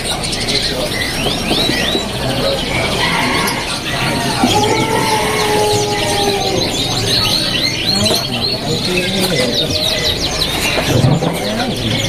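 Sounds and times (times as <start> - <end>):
canary singing: 0.0 - 12.0
faint market chatter: 0.0 - 12.0
other cage birds: 0.0 - 12.0.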